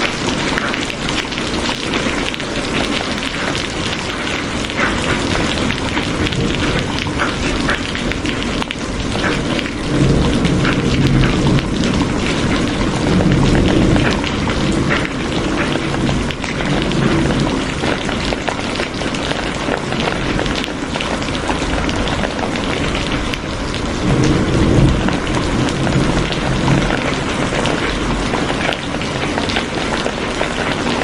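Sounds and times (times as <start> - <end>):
heavy rain spattering: 0.0 - 31.0.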